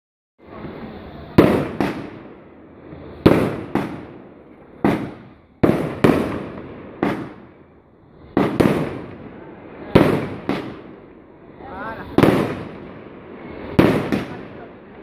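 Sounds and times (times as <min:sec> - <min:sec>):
fireworks bangs: 0:00.4 - 0:15.0.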